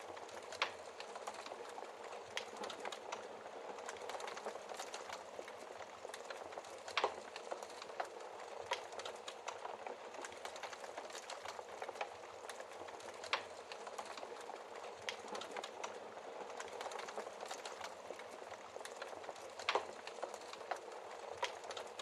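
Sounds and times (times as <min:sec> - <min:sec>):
wood fire crackling: 0:00.0 - 0:22.0
fire popping and snapping: 0:00.1 - 0:22.0.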